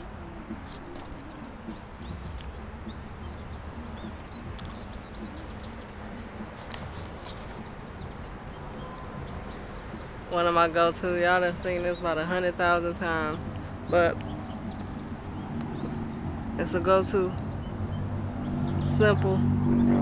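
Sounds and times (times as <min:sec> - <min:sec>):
birds chirping: 0:00.0 - 0:20.0
outdoor background noise: 0:00.0 - 0:20.0.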